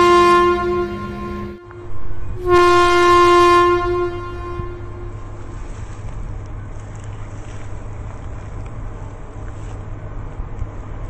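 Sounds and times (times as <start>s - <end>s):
distant electric train: 0.0s - 11.0s
wind buffeting microphone: 0.0s - 11.0s.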